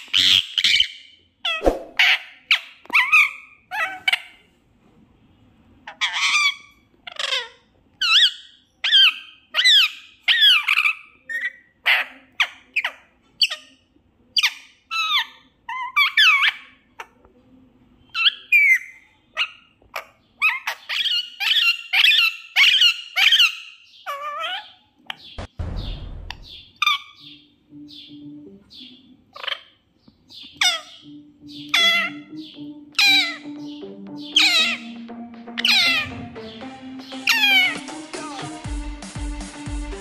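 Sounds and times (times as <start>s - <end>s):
parakeet calling: 0.0s - 4.5s, 5.8s - 17.1s, 18.0s - 38.6s.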